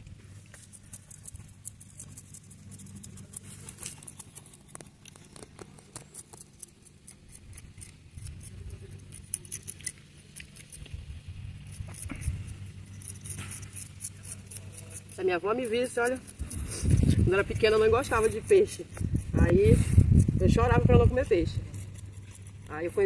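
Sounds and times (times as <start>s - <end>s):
low hum: 0.0s - 23.0s
knife scraping fish scales: 0.4s - 10.9s, 11.6s - 23.0s.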